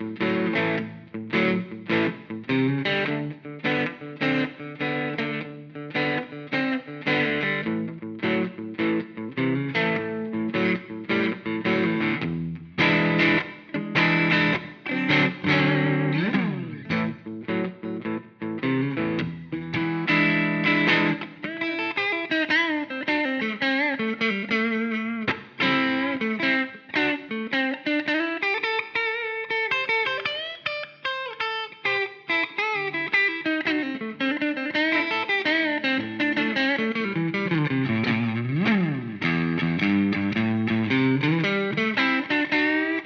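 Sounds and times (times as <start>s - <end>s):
overdriven electric guitar lead: 0.0s - 43.0s.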